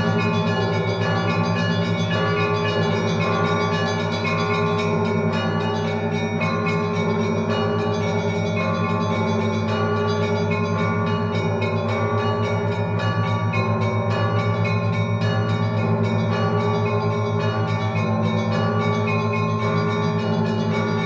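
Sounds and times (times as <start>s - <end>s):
large bells humming: 0.0s - 21.0s
small bells struck rapidly: 0.0s - 21.0s.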